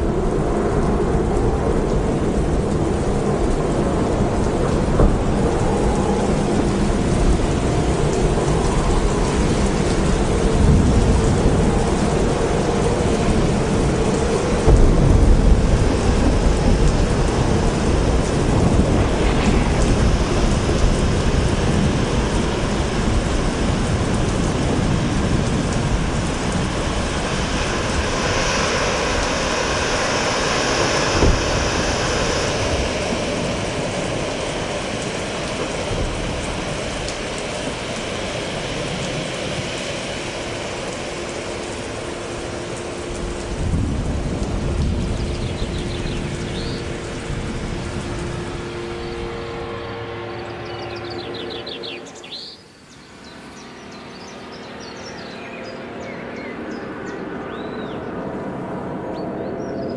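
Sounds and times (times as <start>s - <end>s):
low rumbles of thunder: 0.0s - 50.3s
heavy rain: 0.0s - 59.9s.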